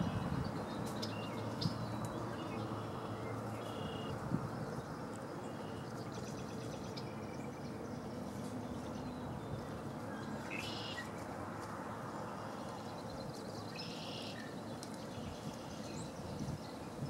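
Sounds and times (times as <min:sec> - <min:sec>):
blackbird songs: 0:00.0 - 0:11.2, 0:11.8 - 0:17.0.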